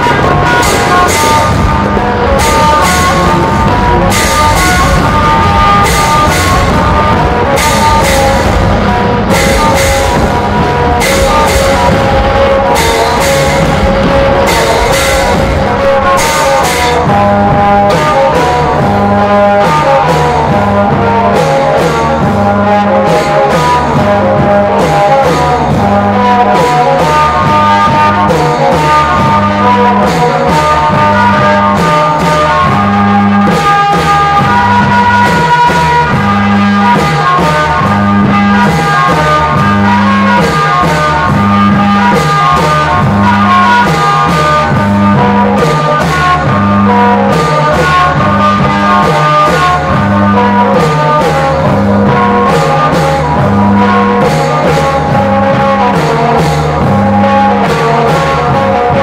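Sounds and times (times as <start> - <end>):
music with steady beat: 0.0 - 59.0.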